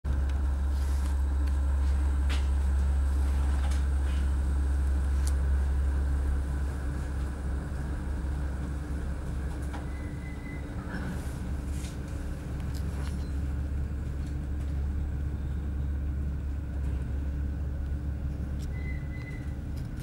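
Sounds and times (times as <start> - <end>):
train rumbling from inside carriage: 0.1 - 20.0.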